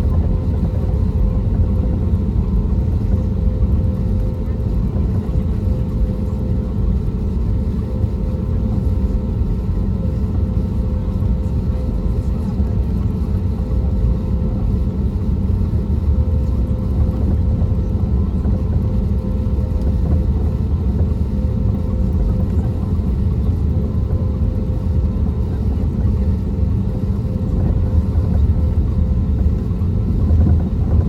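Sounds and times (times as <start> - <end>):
airplane cabin drone: 0.0 - 31.0.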